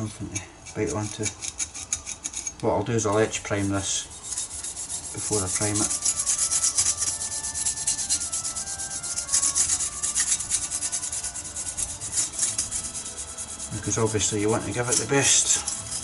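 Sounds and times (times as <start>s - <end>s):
scouring pad scrubbing metal: 0.0s - 16.0s.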